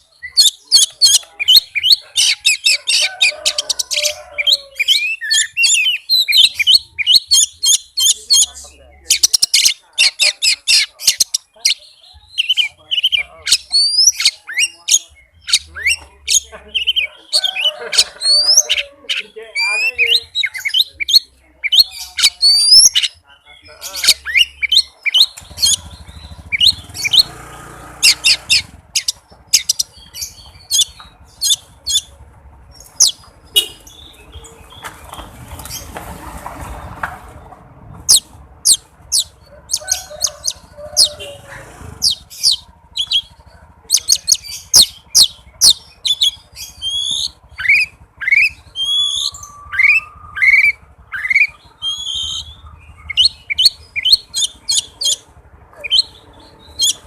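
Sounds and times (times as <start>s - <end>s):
bird singing chirps and clicks: 0.0s - 2.8s, 3.5s - 17.1s, 18.2s - 27.4s, 28.0s - 36.1s, 42.0s - 57.0s.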